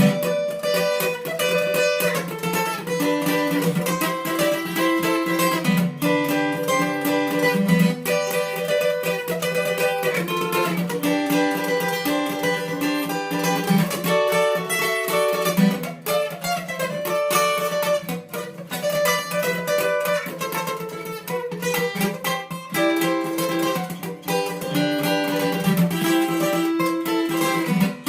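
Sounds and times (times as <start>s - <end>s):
guitar playing plucked notes: 0.0s - 28.0s.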